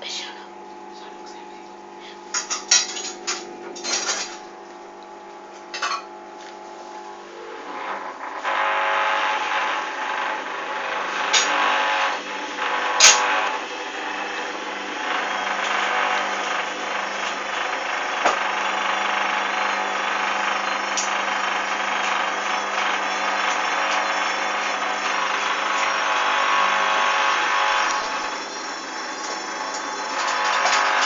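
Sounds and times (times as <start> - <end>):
washing machine motor whine: 0.0 - 31.0.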